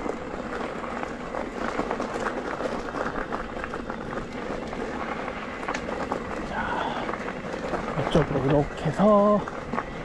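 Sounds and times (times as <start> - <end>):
bicycle tyres rumbling on dirt: 0.0 - 10.0
small clicks and rattles: 0.0 - 10.0.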